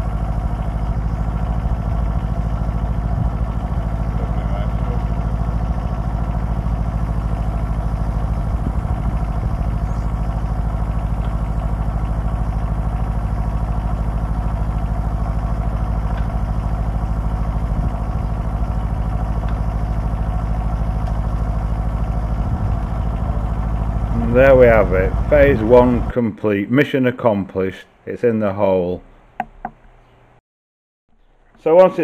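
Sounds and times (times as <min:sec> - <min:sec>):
excavator engine running: 0:00.0 - 0:26.2, 0:29.0 - 0:30.4.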